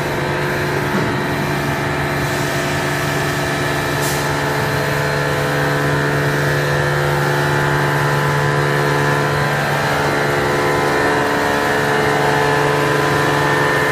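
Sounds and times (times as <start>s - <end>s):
folding machine humming: 0.0s - 13.9s.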